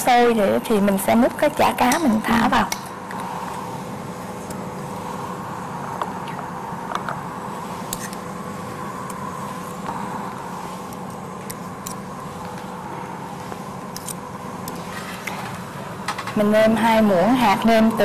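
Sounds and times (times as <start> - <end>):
pot boiling with a hiss: 0.0 - 18.0.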